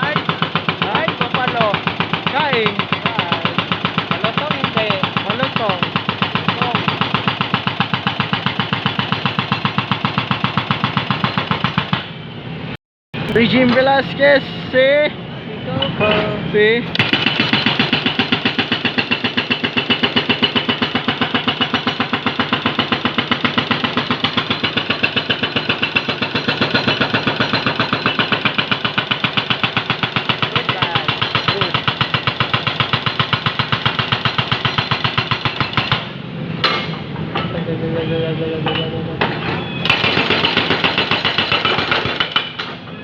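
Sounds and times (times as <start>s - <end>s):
hydraulic breaker hammering: 0.0s - 12.1s, 16.9s - 37.1s, 39.3s - 42.9s.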